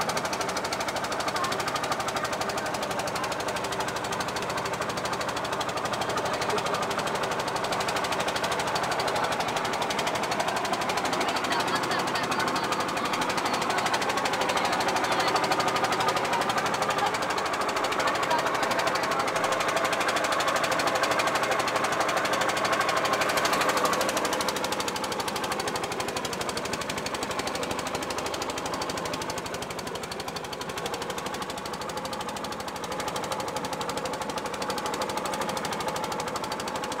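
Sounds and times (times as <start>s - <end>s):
small boat engine running: 0.0s - 37.0s.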